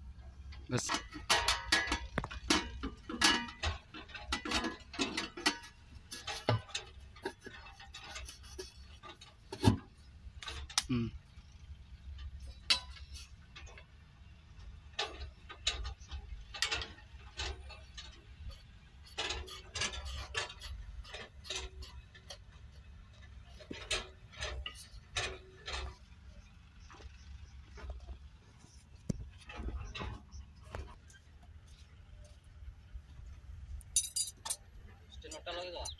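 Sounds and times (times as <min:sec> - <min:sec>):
low steady rumble: 0:00.0 - 0:35.9.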